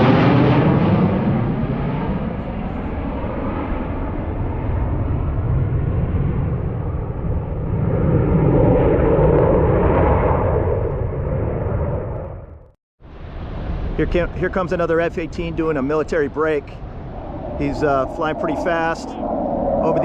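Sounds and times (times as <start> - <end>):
jet aircraft passing: 0.0 - 20.0.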